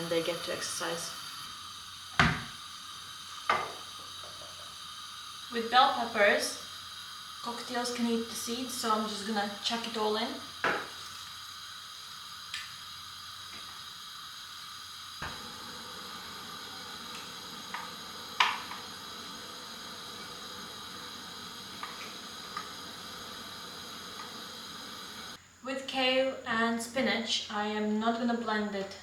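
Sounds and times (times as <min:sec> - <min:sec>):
pot bubbling on stove: 0:00.0 - 0:25.4.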